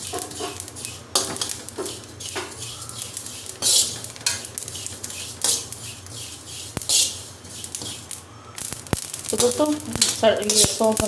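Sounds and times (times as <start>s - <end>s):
metal spoon scraping seeds: 0.0s - 11.0s.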